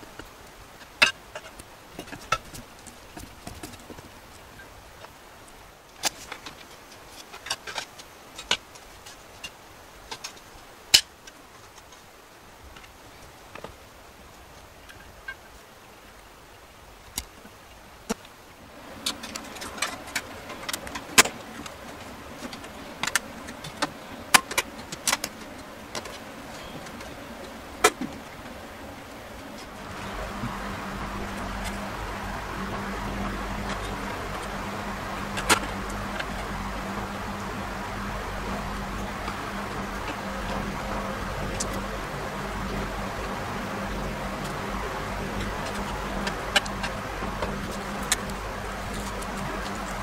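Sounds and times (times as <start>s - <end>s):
faint steady hum and hiss: 0.0s - 50.0s.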